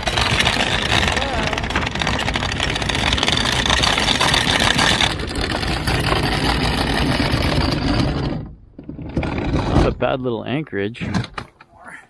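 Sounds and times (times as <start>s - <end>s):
anchor chain rattling: 0.0s - 10.0s.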